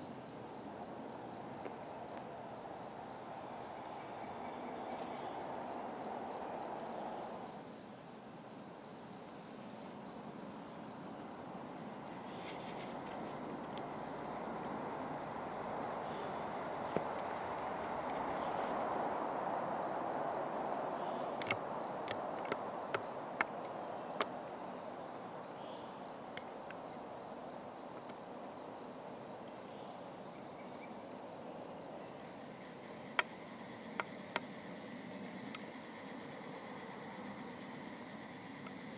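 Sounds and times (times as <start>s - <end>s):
crickets calling: 0.0s - 38.9s.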